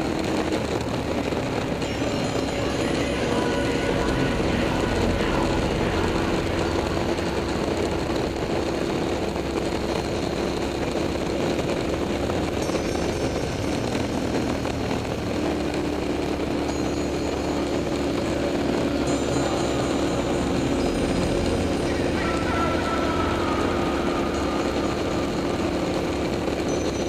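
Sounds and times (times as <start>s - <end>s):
motorcycle engine cruising: 0.0s - 27.0s
wind and road noise: 0.0s - 27.0s.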